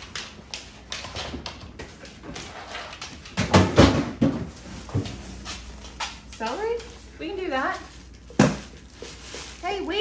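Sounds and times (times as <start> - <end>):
dog rummaging in refrigerator: 1.9 - 10.0.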